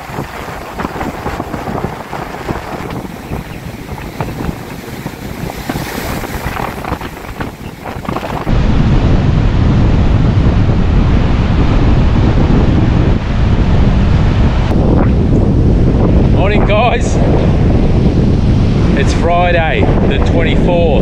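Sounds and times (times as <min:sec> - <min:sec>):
surf breaking on beach: 0:00.0 - 0:20.2
wind buffeting microphone: 0:00.0 - 0:21.0.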